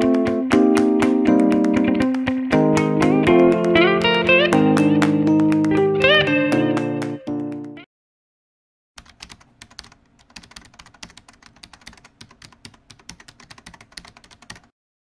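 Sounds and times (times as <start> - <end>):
keyboard typing clicks: 0.0 - 7.9, 9.0 - 14.7.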